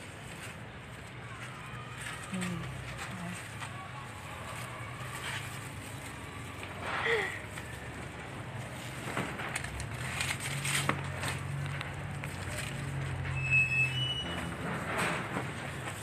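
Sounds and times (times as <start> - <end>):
leaves and vines rustling: 0.0 - 16.0.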